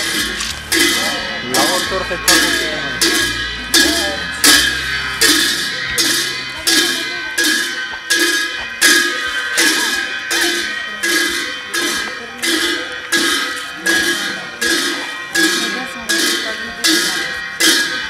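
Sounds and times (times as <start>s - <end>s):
ringing metallic strikes: 0.0s - 18.0s.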